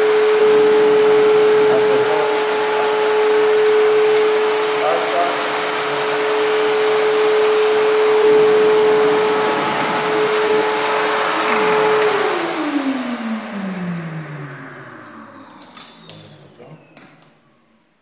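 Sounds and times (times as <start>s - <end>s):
vacuum motor winding down: 0.0s - 17.9s
vacuum cleaner whine: 0.0s - 18.0s.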